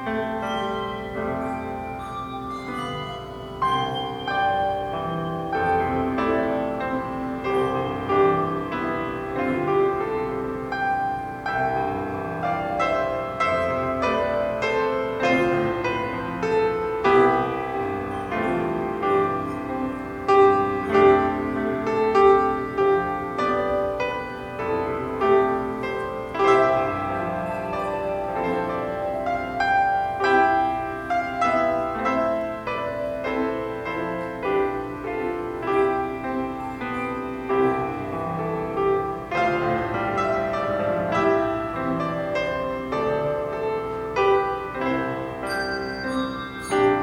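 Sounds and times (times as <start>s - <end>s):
slow solo piano piece: 0.0s - 47.0s.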